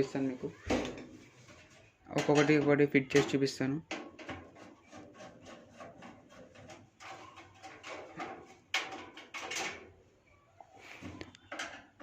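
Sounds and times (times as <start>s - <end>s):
scraping and rustling handling noise: 0.0s - 10.2s.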